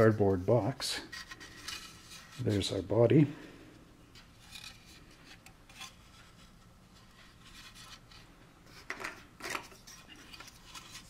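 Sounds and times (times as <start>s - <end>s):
plastic parts rubbing and rustling: 0.0s - 2.8s, 4.2s - 11.0s.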